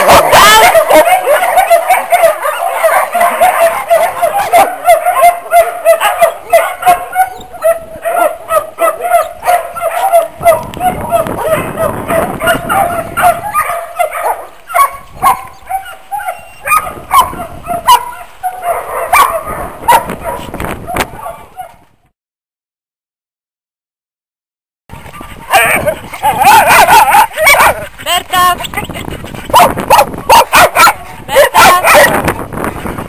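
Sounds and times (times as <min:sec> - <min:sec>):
many dogs barking: 0:00.0 - 0:21.8, 0:25.1 - 0:32.3.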